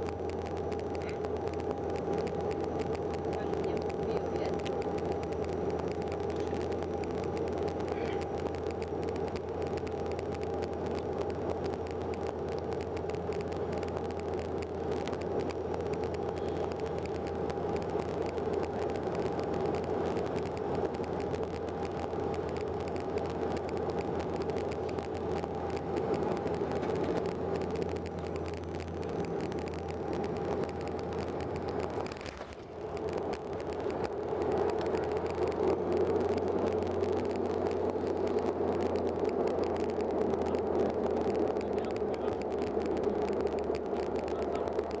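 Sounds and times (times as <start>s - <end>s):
turboprop cabin drone: 0.0s - 45.0s.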